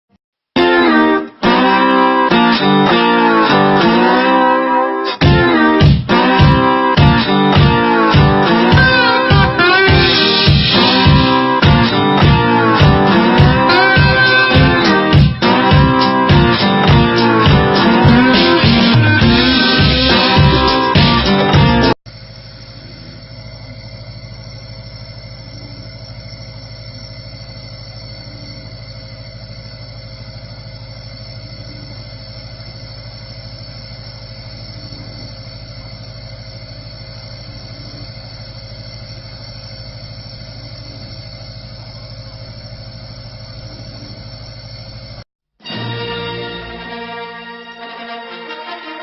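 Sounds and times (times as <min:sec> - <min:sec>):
steady mechanical drone: 0:05.1 - 0:45.2.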